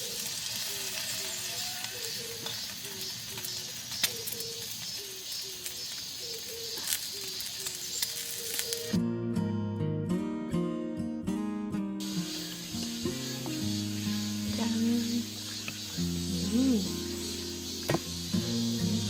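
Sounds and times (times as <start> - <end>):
steady high hiss: 0.0 - 9.0, 12.0 - 19.0.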